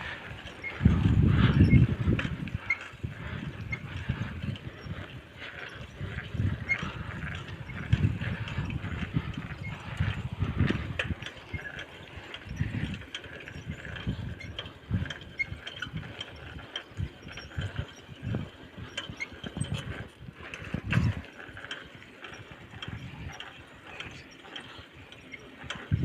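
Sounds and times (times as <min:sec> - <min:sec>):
bicycle clicking and rattling: 0:00.0 - 0:26.0.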